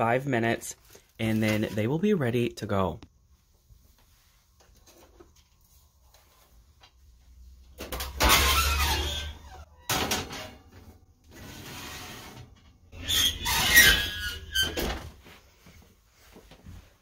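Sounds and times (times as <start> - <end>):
baking sheet on oven rack: 0.0 - 17.0.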